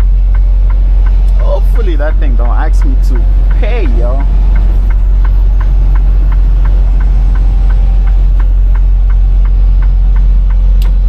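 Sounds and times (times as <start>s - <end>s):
diesel engine droning: 0.0s - 11.0s
turn signal ticking: 0.0s - 11.0s.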